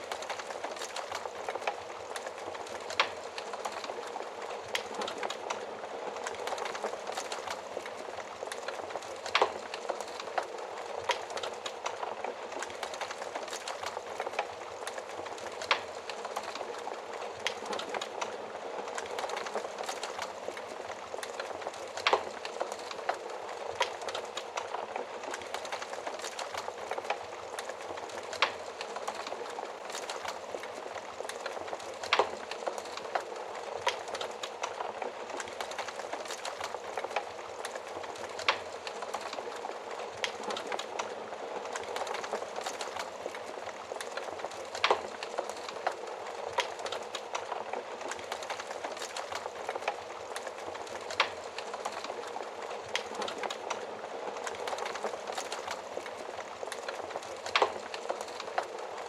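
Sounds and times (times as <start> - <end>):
fire crackling: 0.0 - 59.0
wood fire hissing: 0.0 - 59.0.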